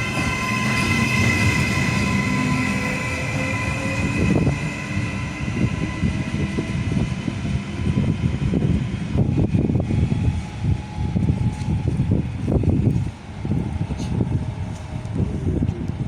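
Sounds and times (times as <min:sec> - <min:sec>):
low train rumble: 0:00.0 - 0:16.0
train whining tones: 0:00.0 - 0:16.0.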